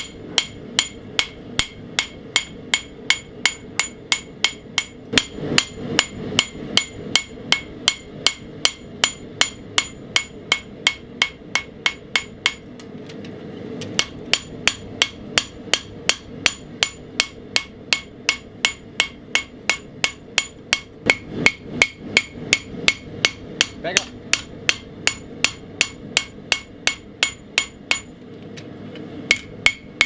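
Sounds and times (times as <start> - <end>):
hammer striking blade on anvil: 0.0 - 12.7, 14.0 - 28.2, 29.3 - 30.0.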